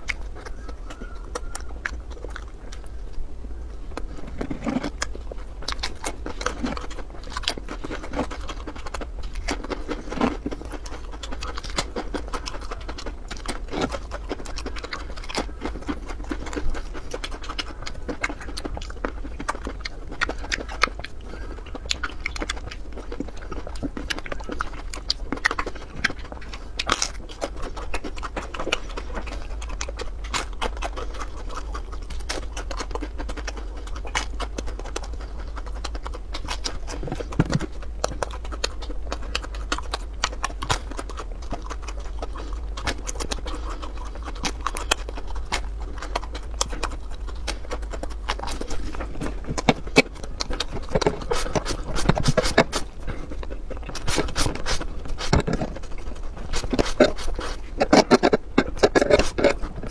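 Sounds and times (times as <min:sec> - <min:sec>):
food being chewed: 0:00.0 - 0:59.9
fried cutlet crunching: 0:00.0 - 0:59.9
low hum: 0:00.0 - 0:59.9.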